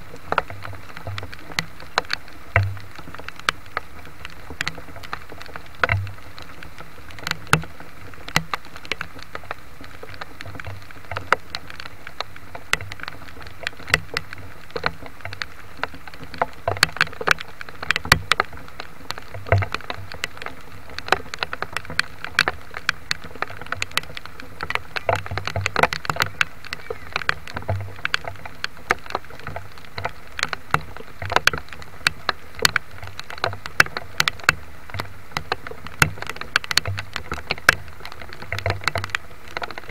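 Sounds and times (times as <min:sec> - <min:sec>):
raindrops tapping on surface: 0:00.0 - 0:39.9
steady rain hiss: 0:00.0 - 0:39.9.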